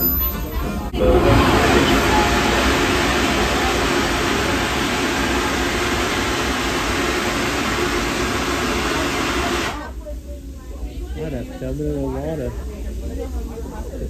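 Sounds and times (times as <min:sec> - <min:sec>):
steam train rushing hiss: 0:00.0 - 0:14.0.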